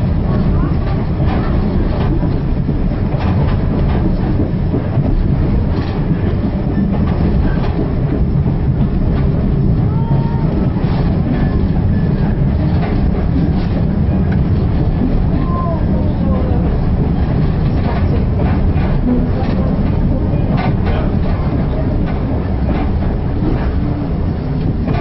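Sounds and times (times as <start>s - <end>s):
clickety-clack over rail joints: 0.0s - 25.0s
rumble of wheels on rails: 0.0s - 25.0s.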